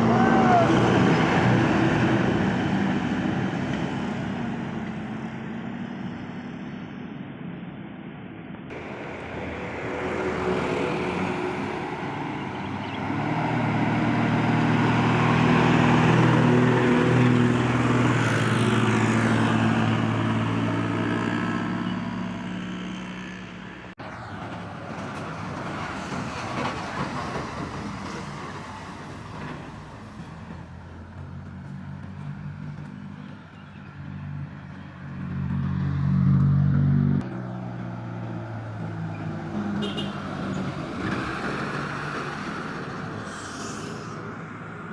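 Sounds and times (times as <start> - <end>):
heavy truck engine passing: 0.0 - 44.9
traffic noise: 0.0 - 44.9.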